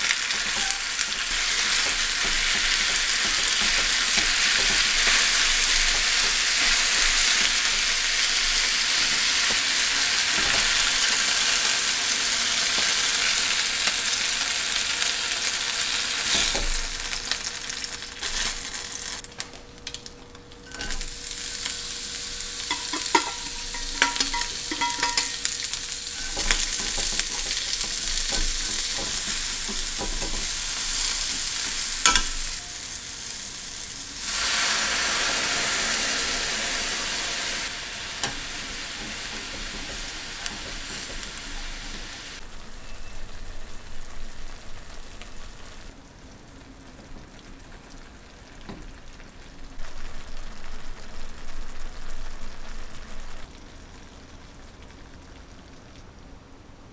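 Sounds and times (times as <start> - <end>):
onions sizzling in a frying pan: 0.0 - 56.1.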